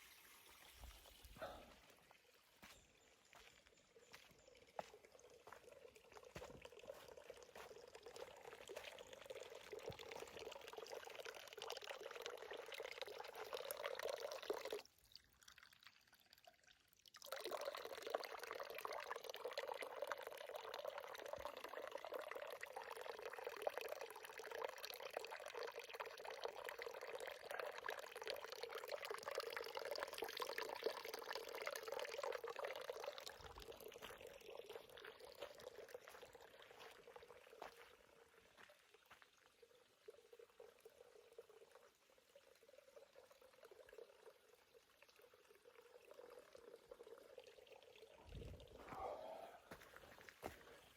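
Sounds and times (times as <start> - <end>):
water pouring in a stream: 0.0 - 50.9.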